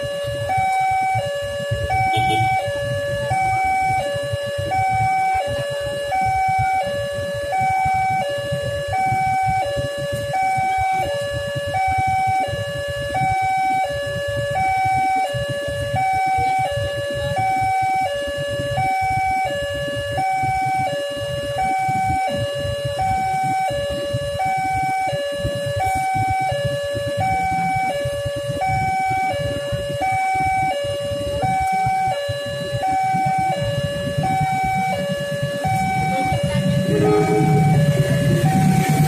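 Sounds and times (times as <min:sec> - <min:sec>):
level crossing two-tone alarm: 0:00.0 - 0:39.0
low rumble of traffic: 0:00.0 - 0:39.0.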